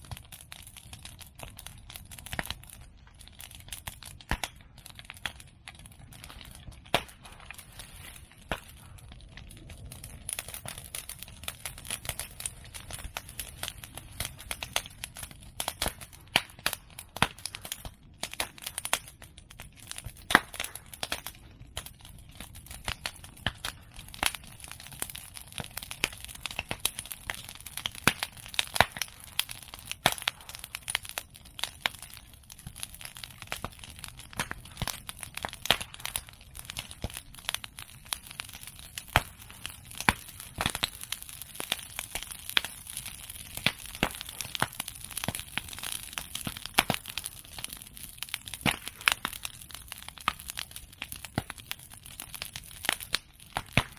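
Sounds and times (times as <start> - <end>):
bonfire crackling: 0.0 - 53.9.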